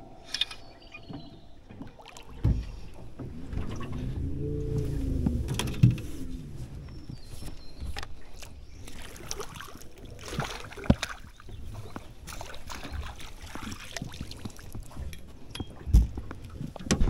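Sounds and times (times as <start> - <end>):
water splashes: 0.9 - 16.8.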